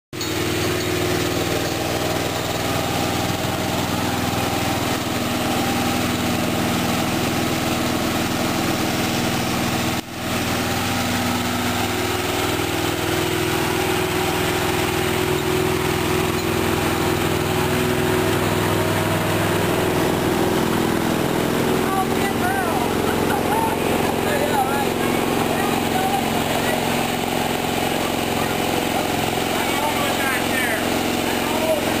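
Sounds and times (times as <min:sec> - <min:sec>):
small tractor engine running: 0:00.1 - 0:32.0.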